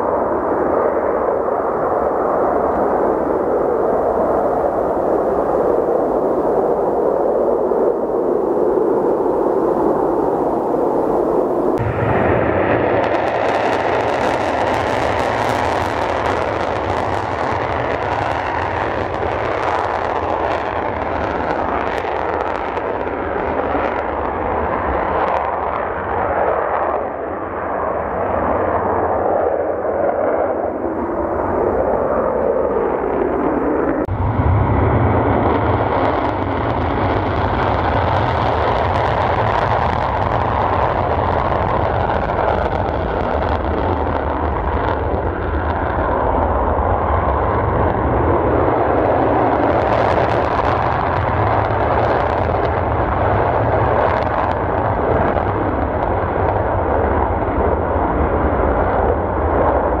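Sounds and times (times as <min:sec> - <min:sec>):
jet engine roar with crackle: 0:00.0 - 1:00.0
heavy low rumble: 0:02.7 - 0:26.1, 0:30.9 - 1:00.0.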